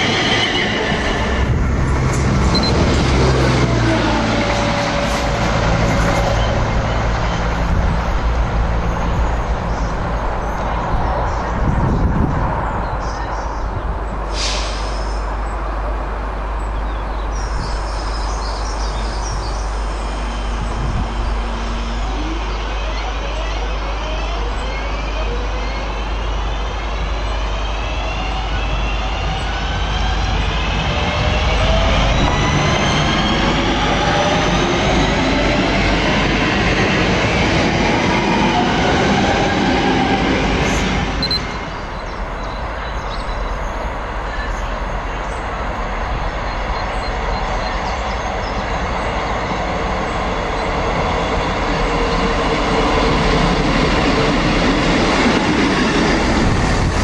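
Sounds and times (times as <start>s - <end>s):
diesel train approaching: 0.0s - 57.0s
rail noise: 0.0s - 57.0s.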